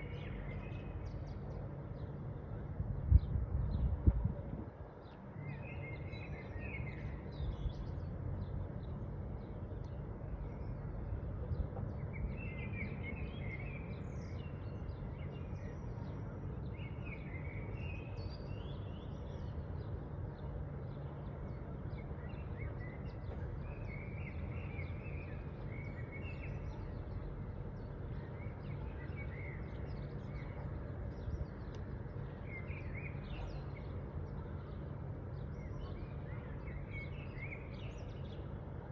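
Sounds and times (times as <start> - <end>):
low background noise: 0.0 - 38.9.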